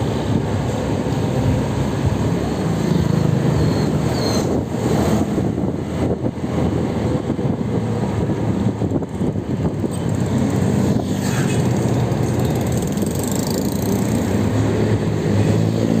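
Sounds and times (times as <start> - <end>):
vehicle running with road noise: 0.0 - 16.0.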